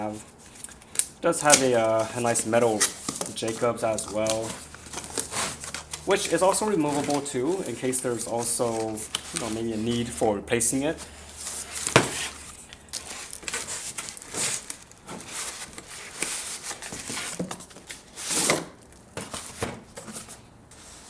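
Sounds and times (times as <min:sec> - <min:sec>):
packaging rustling and crinkling: 0:00.1 - 0:10.1, 0:10.8 - 0:21.0.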